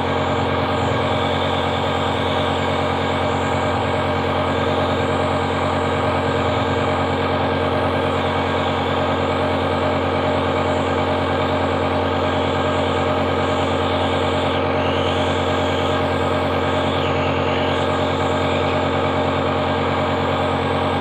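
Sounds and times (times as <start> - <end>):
air pump buzzing: 0.0 - 21.0.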